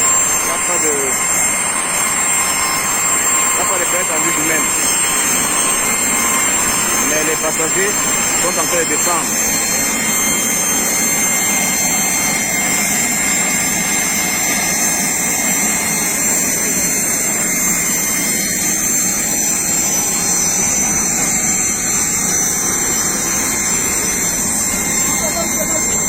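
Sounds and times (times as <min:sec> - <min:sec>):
turbine engine roaring with whine: 0:00.0 - 0:26.0.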